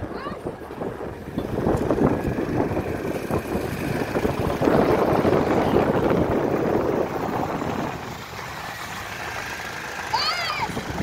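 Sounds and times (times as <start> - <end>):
heavy engine rumbling: 0.0 - 11.0.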